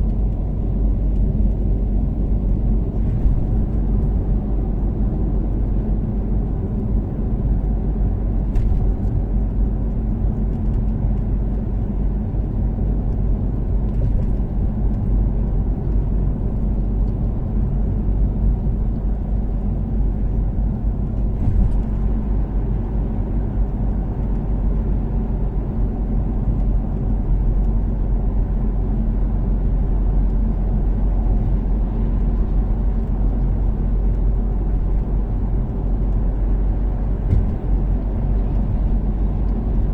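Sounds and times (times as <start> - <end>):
tyre and road rumble: 0.0 - 39.9.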